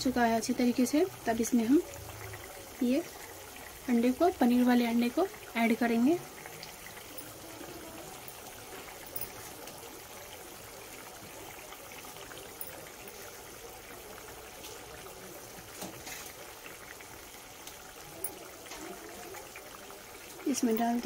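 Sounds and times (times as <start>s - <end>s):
curry boiling: 0.0s - 21.0s
food splashing into liquid: 1.6s - 21.0s.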